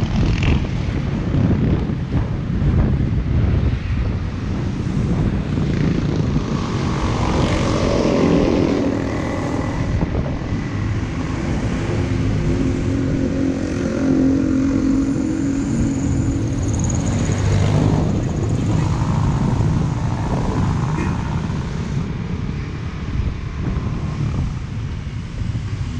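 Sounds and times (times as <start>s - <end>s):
wind noise on microphone: 0.0s - 25.9s
motorbike engine droning: 4.6s - 25.9s.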